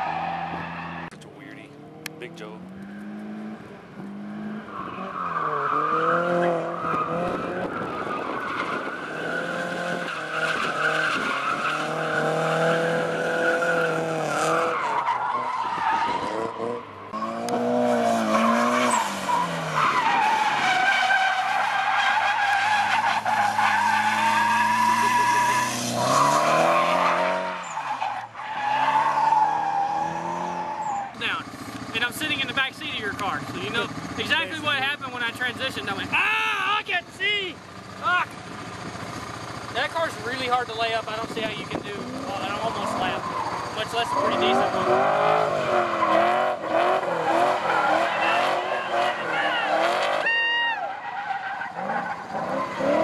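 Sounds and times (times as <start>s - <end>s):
car engines revving: 0.0s - 53.0s
tires squealing: 0.0s - 53.0s.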